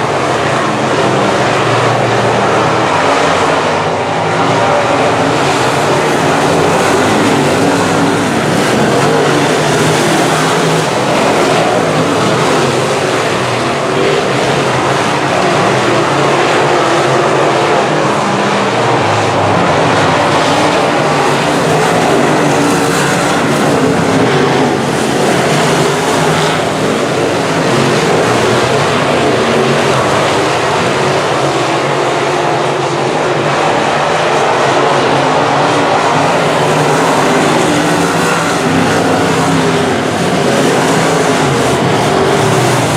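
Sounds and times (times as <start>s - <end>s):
race car engines: 0.0s - 42.9s.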